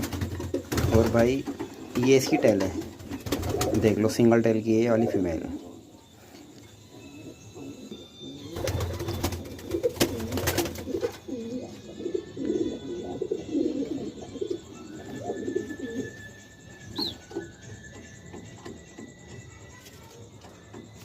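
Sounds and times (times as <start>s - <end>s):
pigeons cooing: 0.0s - 19.6s.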